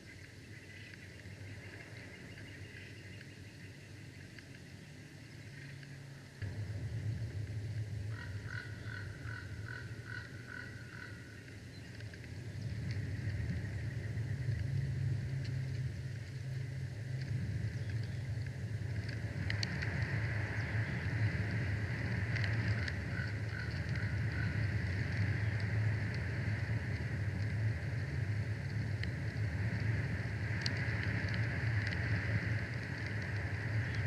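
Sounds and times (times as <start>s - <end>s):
faint clicks: 0.0s - 6.6s, 7.2s - 34.0s
wind rumble on microphone: 0.0s - 34.0s.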